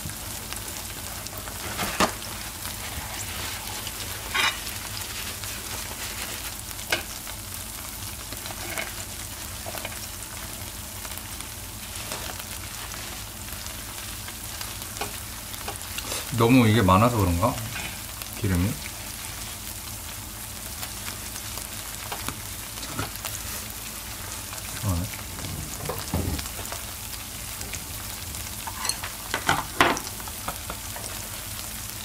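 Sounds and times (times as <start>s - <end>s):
cheese sizzling on griddle: 0.0s - 32.0s.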